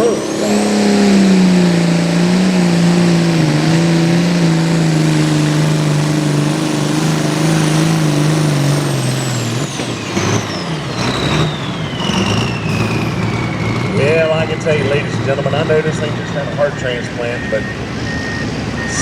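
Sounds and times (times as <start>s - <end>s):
tractor diesel engine under load: 0.0s - 19.0s
turbo whine: 0.0s - 19.0s.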